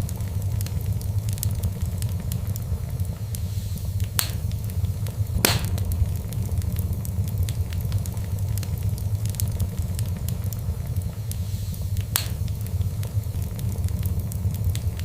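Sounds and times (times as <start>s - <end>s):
fire popping loudly: 0.0s - 15.0s
fireplace fire crackling: 0.0s - 15.0s.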